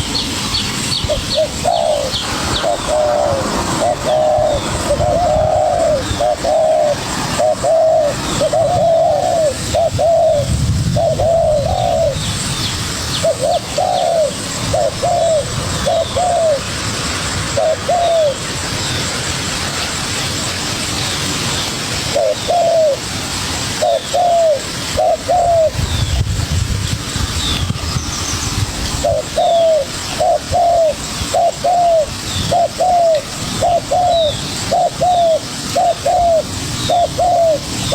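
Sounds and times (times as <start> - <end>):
doves cooing: 0.0 - 26.3, 27.5 - 37.9.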